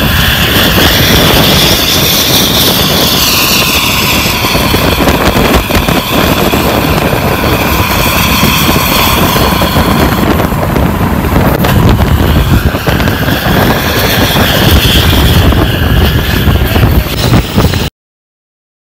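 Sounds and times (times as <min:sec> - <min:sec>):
bus exhaust deep rumble: 0:00.0 - 0:17.9
high engine whine: 0:00.0 - 0:17.9.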